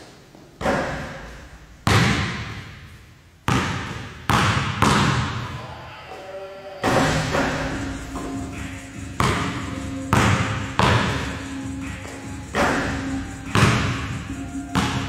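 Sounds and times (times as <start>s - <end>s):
basketball bouncing with echo: 0.6s - 5.8s, 6.8s - 15.0s.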